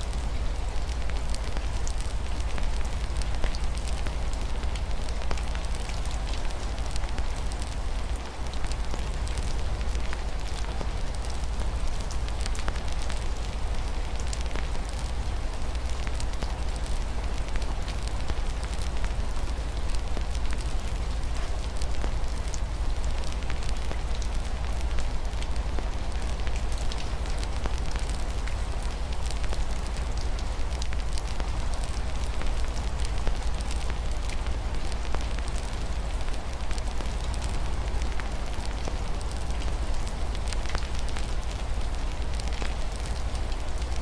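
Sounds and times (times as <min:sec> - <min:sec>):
rain on a window: 0:00.0 - 0:44.0
wood fire crackling: 0:00.0 - 0:44.0.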